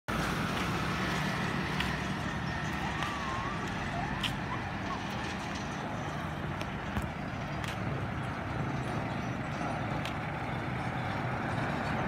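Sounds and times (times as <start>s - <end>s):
motorcycle engines running: 0.1s - 12.0s.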